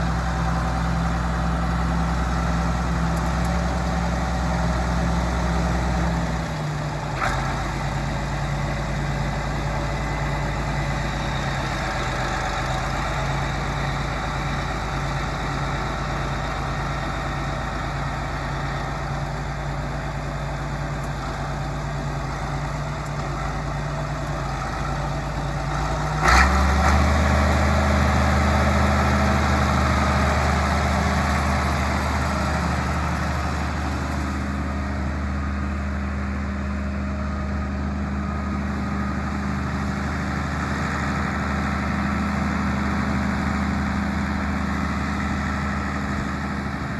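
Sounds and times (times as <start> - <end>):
tractor engine idling: 0.0 - 46.9.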